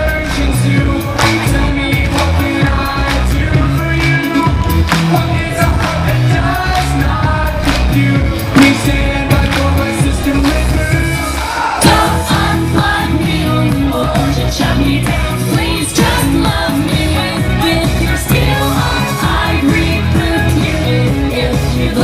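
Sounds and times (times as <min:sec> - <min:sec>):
live pop-rock band: 0:00.0 - 0:22.0
person singing: 0:00.0 - 0:22.0.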